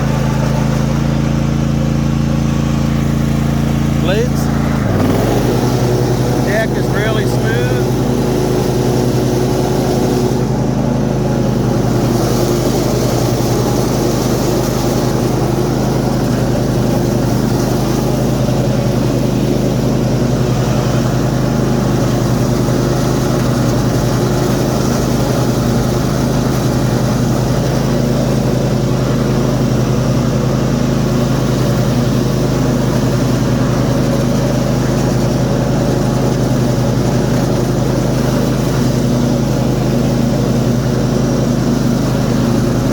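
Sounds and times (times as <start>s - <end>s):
lawn mower engine running: 0.0s - 42.9s
mower blades cutting grass: 0.0s - 42.9s.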